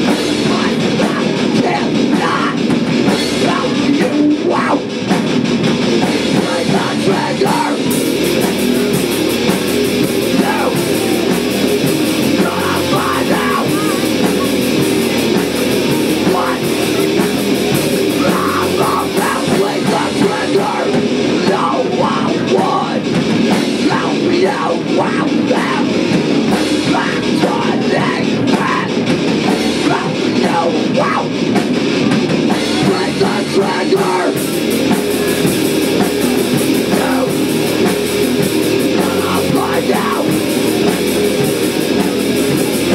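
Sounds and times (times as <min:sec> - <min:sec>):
distorted electric guitars: 0:00.0 - 0:42.9
drum kit: 0:00.0 - 0:42.9.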